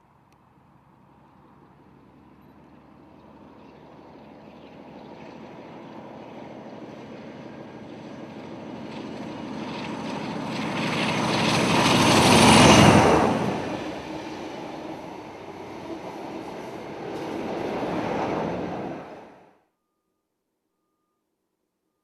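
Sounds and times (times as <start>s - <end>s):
diesel locomotive passing: 0.6s - 19.5s.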